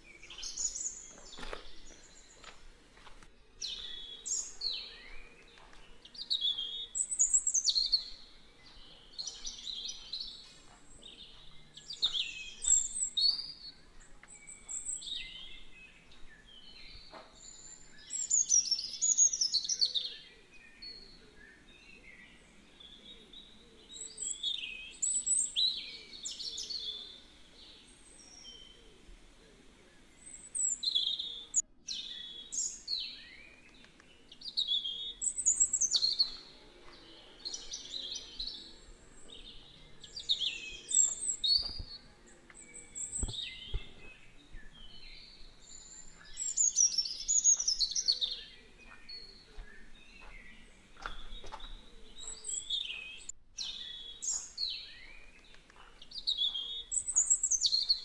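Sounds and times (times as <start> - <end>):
birds chirping and whistling: 0.0 - 2.6, 3.6 - 29.1, 30.0 - 58.0.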